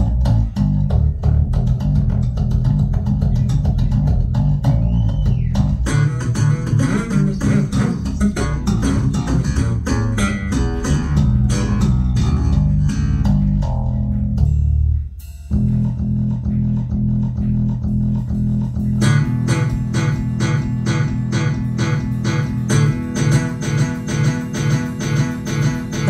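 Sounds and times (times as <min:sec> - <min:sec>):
music with plucked bass and guitar: 0:00.0 - 0:26.0.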